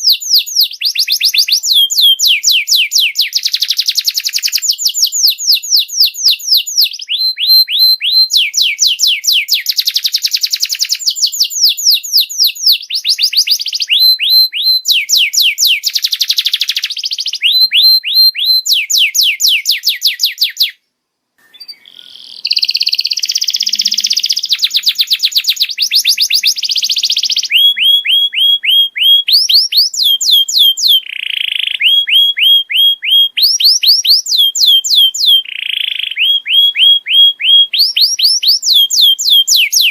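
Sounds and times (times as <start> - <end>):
canary singing rapid trills: 0.0 - 20.8, 21.5 - 39.9.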